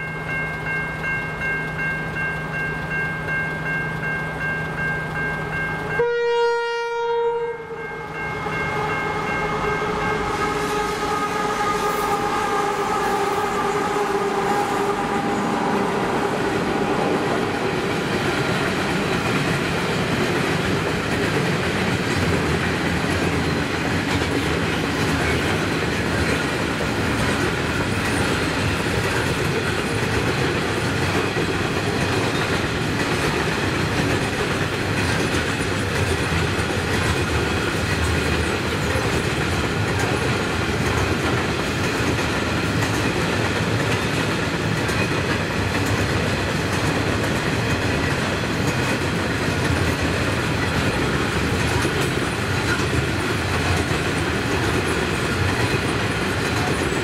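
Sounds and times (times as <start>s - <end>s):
locomotive hum: 7.6s - 57.0s.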